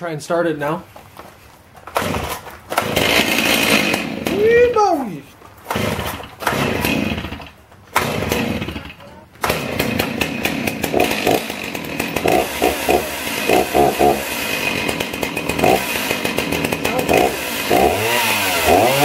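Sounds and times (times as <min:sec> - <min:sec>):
chainsaw starting and running: 0:01.9 - 0:04.8, 0:05.6 - 0:19.0.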